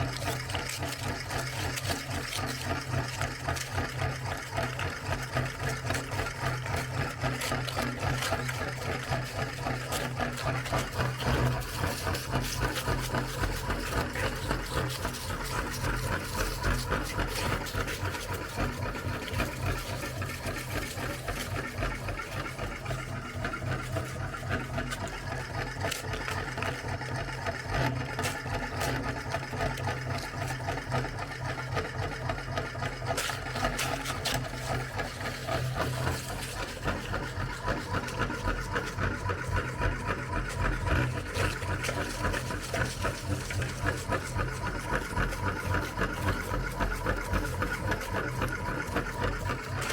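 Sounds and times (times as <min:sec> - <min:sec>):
crackling of grinding cones: 0:00.0 - 0:49.9
meat grinder motor humming: 0:00.0 - 0:49.9.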